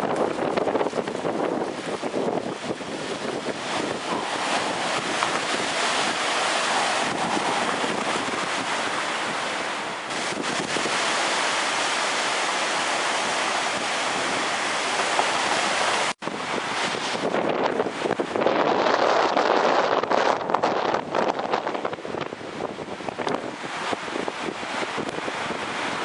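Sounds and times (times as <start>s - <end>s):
wind and rain rushing hiss: 0.0s - 26.0s
wind buffeting microphone: 0.0s - 26.0s.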